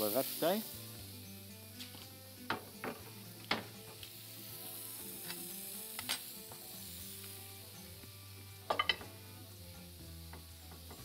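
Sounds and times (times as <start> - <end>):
vegetables sizzling in grill pan: 0.0 - 11.0.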